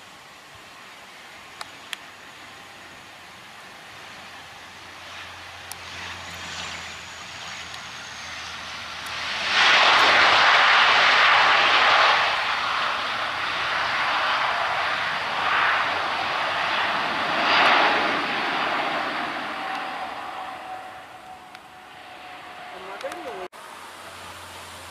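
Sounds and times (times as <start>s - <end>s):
turboprop engines and propellers: 0.0s - 24.9s.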